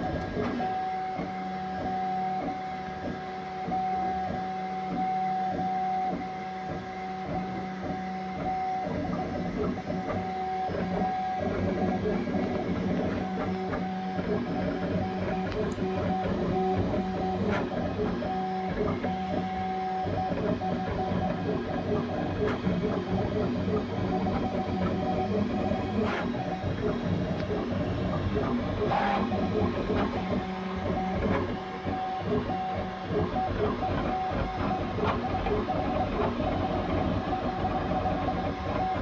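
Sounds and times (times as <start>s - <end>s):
printer stepper motors whining: 0.0s - 39.0s.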